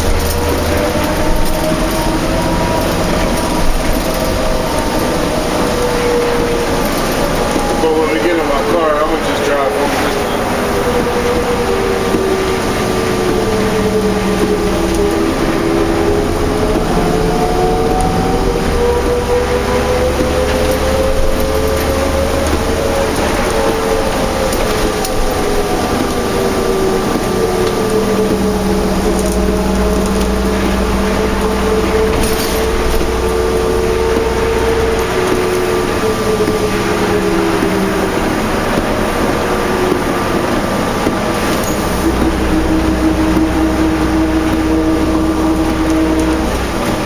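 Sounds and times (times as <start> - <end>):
bus engine rumble and whine: 0.0 - 47.0.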